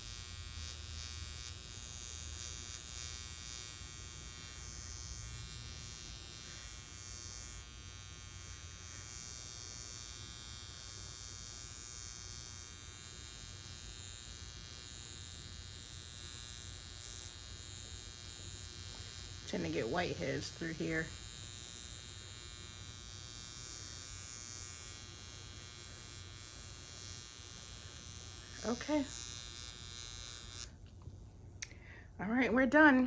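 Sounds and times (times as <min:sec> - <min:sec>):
electric wand buzzing: 0:00.0 - 0:33.0.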